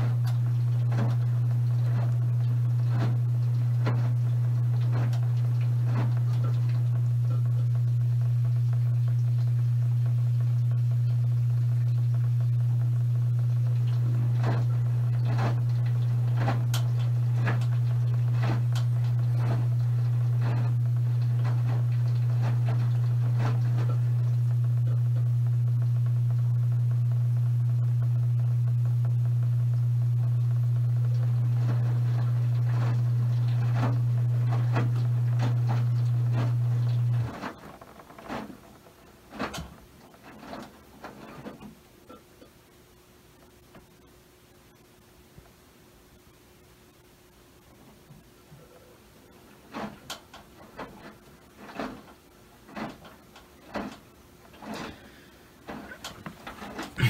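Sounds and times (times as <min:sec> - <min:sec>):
washing machine hum: 0:00.0 - 0:57.0.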